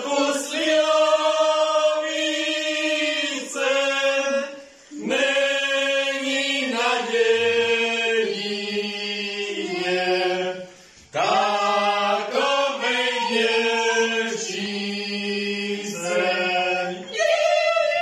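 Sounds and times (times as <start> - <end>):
group singing a carol: 0.0 - 18.0.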